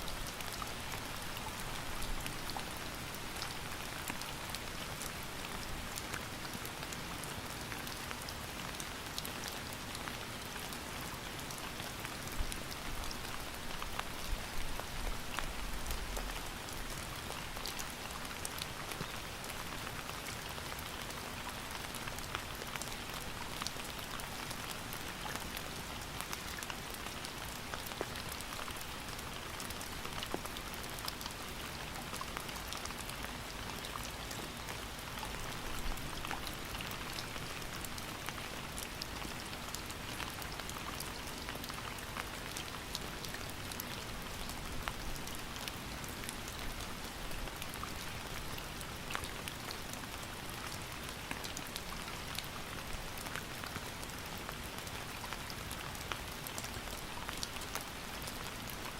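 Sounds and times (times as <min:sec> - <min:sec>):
rain drops ticking on a surface: 0:00.0 - 0:58.9.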